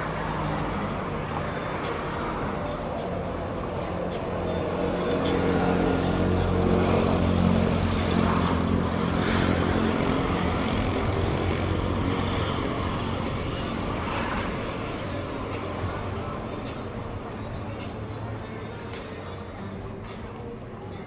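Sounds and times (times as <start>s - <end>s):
street traffic noise: 0.0s - 21.0s
vehicle engine humming: 0.0s - 21.0s.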